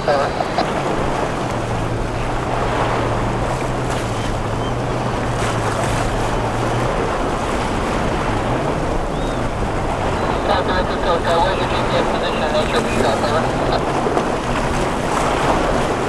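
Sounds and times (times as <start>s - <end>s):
outboard engine humming: 0.0s - 16.0s
waves washing against rocks: 0.0s - 16.0s.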